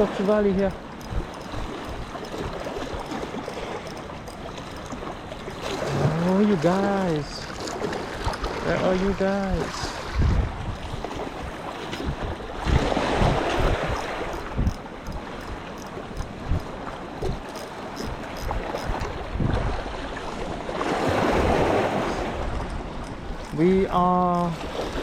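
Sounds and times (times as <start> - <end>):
sea waves washing onto shore: 0.0 - 25.0
wind buffeting microphone: 0.0 - 25.0.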